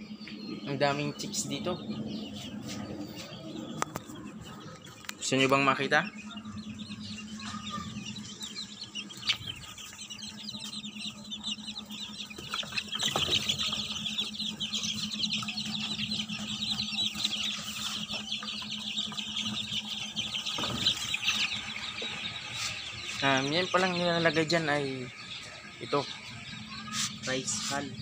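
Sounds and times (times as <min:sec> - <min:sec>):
chicks peeping: 0:00.0 - 0:28.0
steady low hum: 0:00.0 - 0:28.0.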